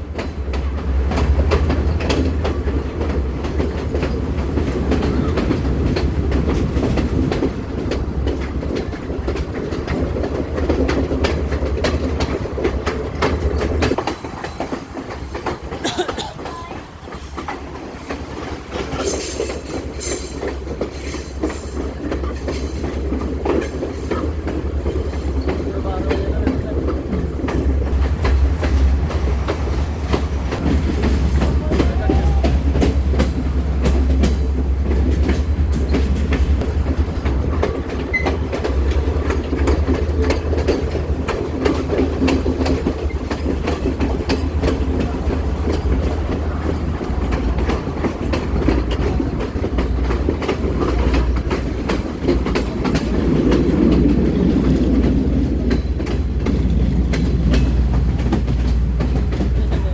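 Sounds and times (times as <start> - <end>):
train running on rails: 0.0 - 59.9
wheels clacking over rail joints: 0.0 - 59.9.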